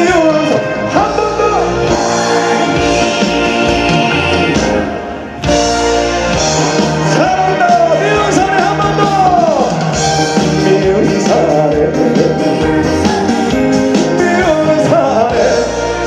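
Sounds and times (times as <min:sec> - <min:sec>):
man singing: 0:00.0 - 0:04.8, 0:07.0 - 0:16.0
band playing trot music: 0:00.0 - 0:16.0.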